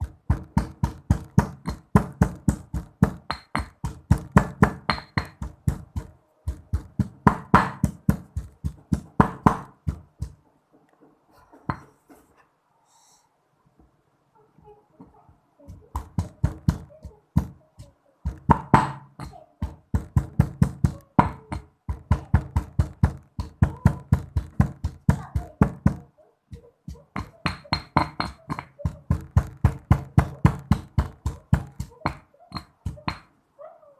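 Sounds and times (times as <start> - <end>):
pestle pounding in a mortar: 0.0 - 10.4, 15.7 - 33.3.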